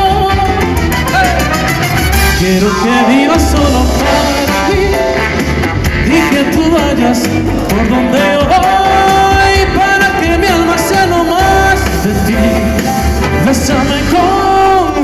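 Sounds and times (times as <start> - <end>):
man singing into microphone: 0.0 - 1.3, 2.3 - 15.0
big band backing music: 0.0 - 15.0.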